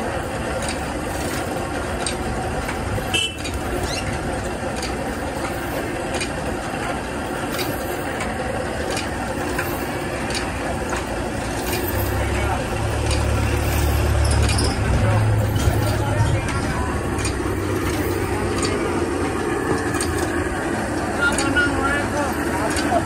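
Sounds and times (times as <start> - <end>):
band sawmill running: 0.0 - 23.0.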